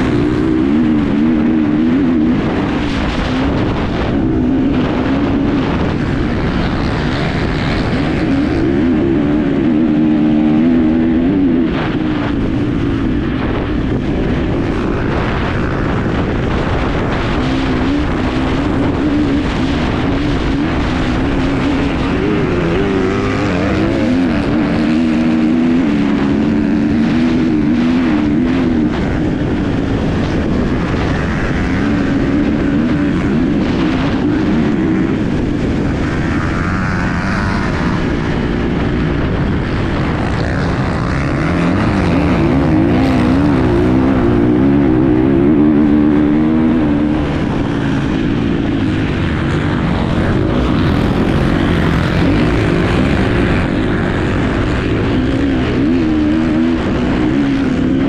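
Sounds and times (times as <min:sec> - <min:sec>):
motorcycle engine revving: 0:00.0 - 0:58.0
wind and ground noise: 0:00.0 - 0:58.0.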